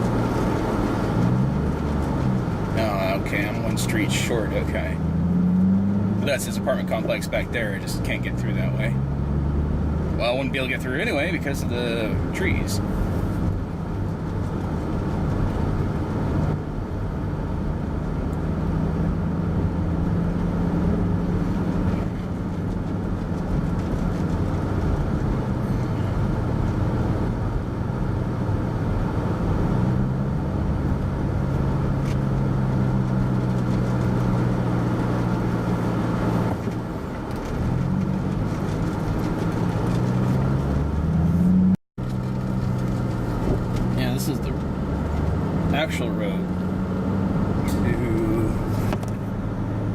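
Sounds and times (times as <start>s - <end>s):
car engine hum: 0.0s - 49.9s
road noise inside car: 0.0s - 49.9s.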